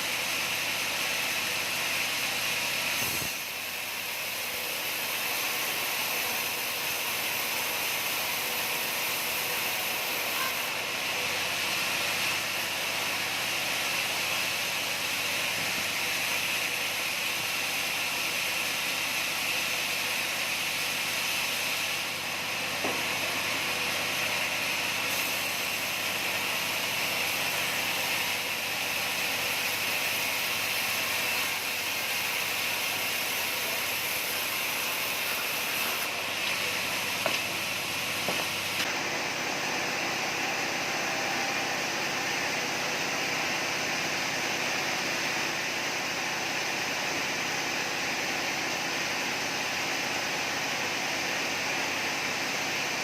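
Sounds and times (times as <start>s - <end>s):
sawmill saw running: 0.0s - 53.0s.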